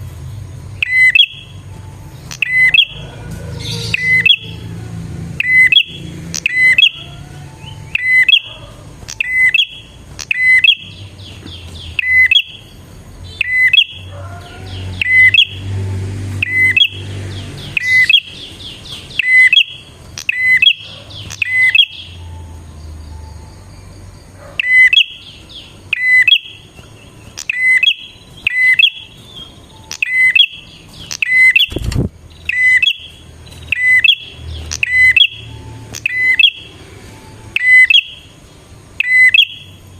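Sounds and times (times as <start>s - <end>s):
bird shrill chirps: 0.8s - 1.6s, 2.2s - 15.7s, 16.4s - 38.4s, 39.0s - 39.9s.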